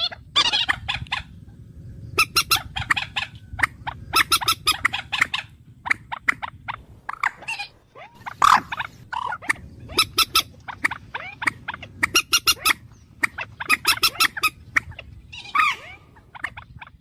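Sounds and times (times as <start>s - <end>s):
low background hum: 0.0s - 17.0s
bird calling sharp notes: 2.1s - 17.0s.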